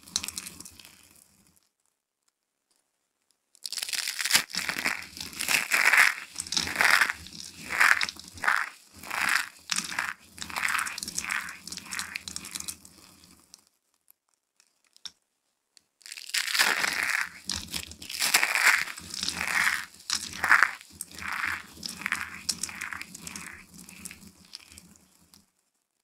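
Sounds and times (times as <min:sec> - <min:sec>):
soap curls crinkling in hands: 0:00.0 - 0:01.9, 0:03.6 - 0:15.1, 0:16.0 - 0:25.5.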